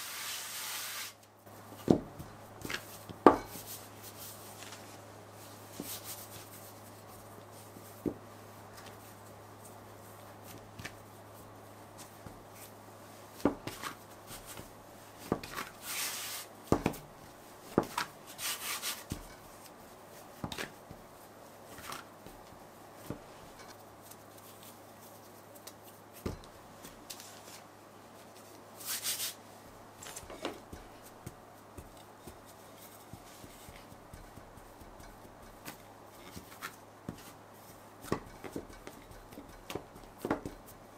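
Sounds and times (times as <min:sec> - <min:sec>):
rustling: 0:00.1 - 0:40.9
low steady hum: 0:01.2 - 0:40.9.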